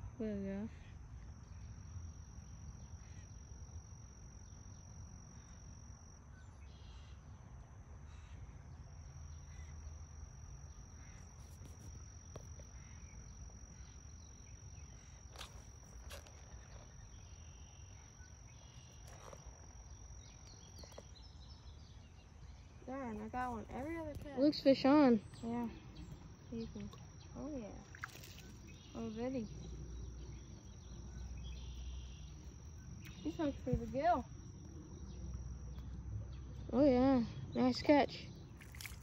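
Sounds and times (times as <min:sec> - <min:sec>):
insect singing high note: 0:00.7 - 0:07.1, 0:08.1 - 0:21.6, 0:22.5 - 0:35.9.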